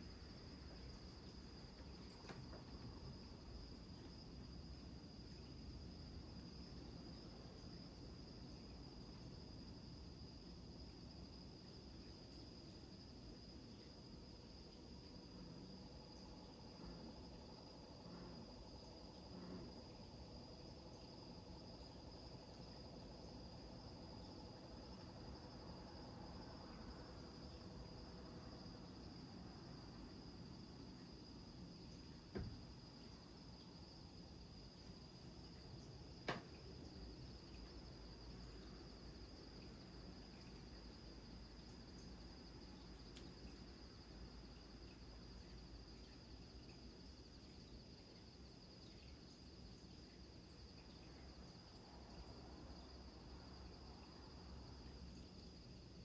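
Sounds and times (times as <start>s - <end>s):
crickets chirring: 0.0s - 56.0s
low insect tone: 0.0s - 56.0s.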